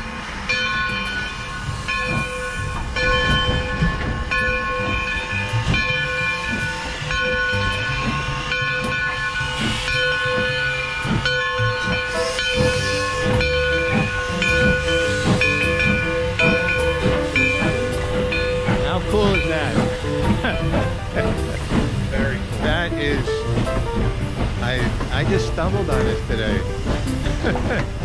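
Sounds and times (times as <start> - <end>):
steam hissing: 0.0 - 28.0
steam locomotive moving: 0.0 - 28.0.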